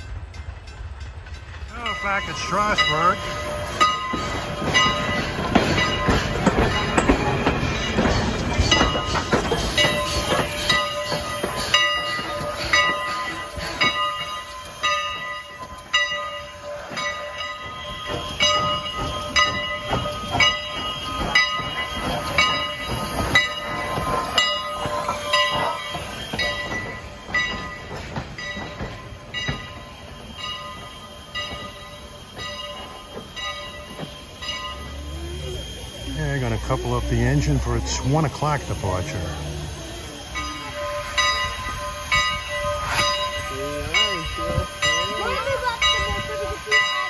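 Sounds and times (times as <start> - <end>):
steam locomotive bell ringing: 0.0 - 47.0.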